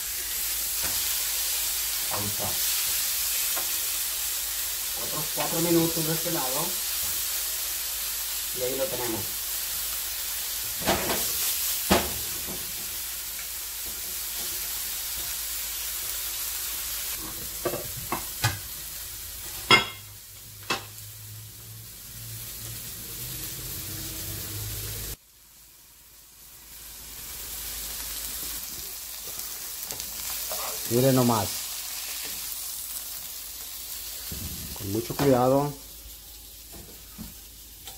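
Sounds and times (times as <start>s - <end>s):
fish sizzling in a pan: 0.0s - 37.9s.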